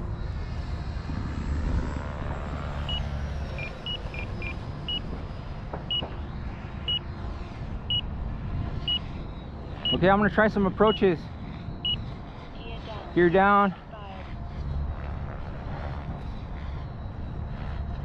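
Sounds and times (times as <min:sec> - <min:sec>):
electric ducted fan whining: 0:00.0 - 0:18.0.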